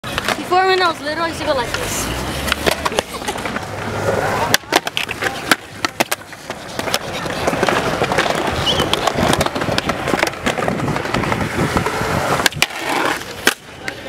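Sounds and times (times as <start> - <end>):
skateboard clacks: 0.0 - 14.0
skateboard wheels rolling on concrete: 0.0 - 14.0.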